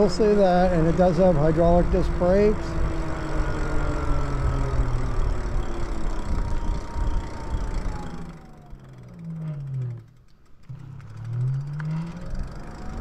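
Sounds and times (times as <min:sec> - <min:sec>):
electric bike motor whining: 0:00.0 - 0:13.0
low wind: 0:00.0 - 0:13.0
road rumble: 0:00.0 - 0:13.0.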